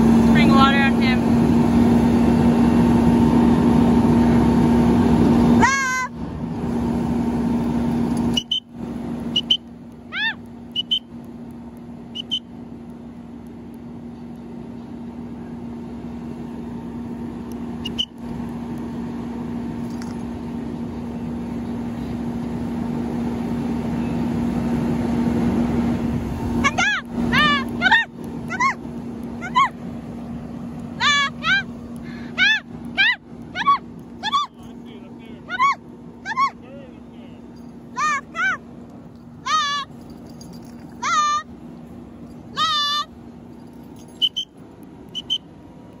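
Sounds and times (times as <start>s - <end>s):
fire engine pump humming: 0.0s - 46.0s.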